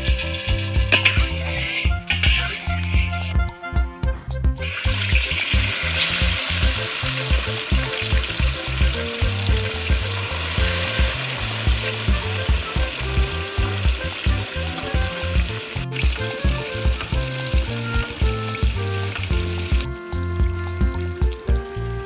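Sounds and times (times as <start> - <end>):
fish sizzling in hot oil: 0.0 - 3.4, 4.6 - 19.9
background music with steady beat: 0.0 - 22.0.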